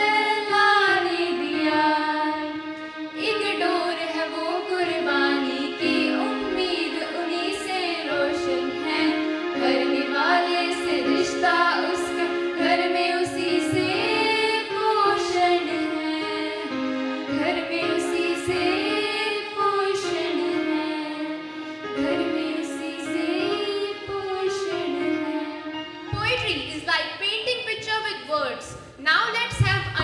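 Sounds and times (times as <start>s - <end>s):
young female voices singing: 0.0s - 25.7s
music: 0.0s - 30.0s.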